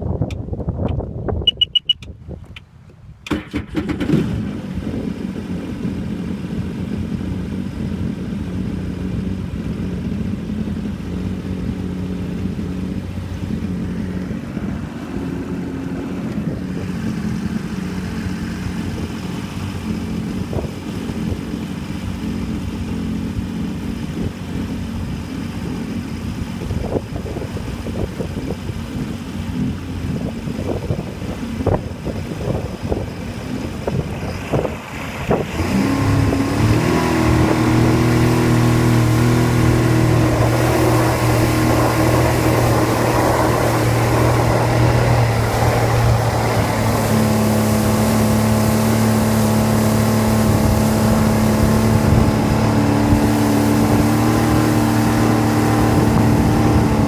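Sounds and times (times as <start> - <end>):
watercraft engine idling: 0.0 - 57.0
watercraft engine starting: 1.5 - 57.0.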